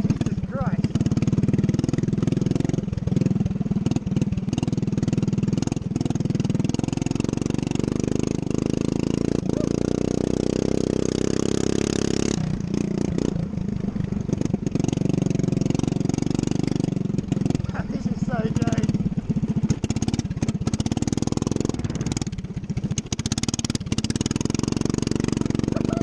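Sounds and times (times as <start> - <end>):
ride-on lawn mower engine revving: 0.0 - 26.0.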